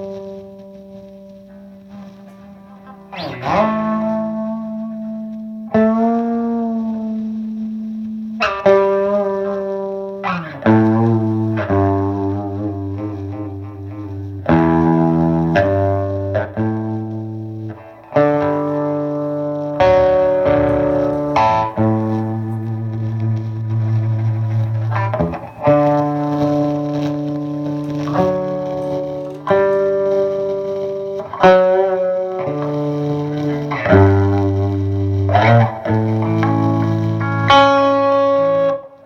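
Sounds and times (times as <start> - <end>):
electric guitar chords ringing: 0.0 - 39.0.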